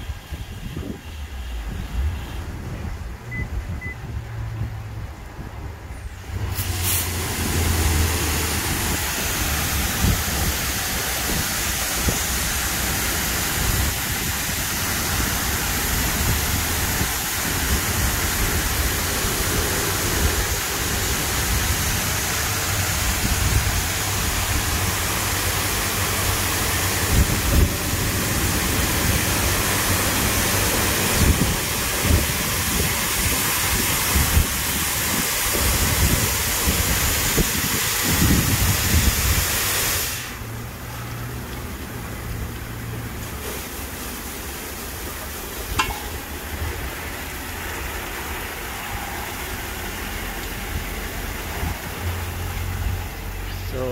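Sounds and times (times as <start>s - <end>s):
car wash water spray hissing: 0.0s - 53.9s.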